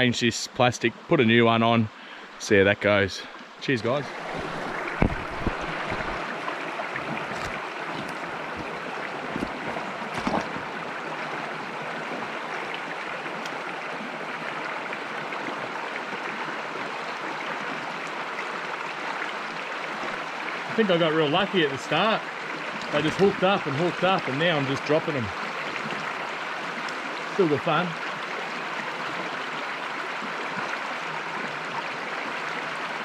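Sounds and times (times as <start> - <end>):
stream running: 0.0 - 33.0.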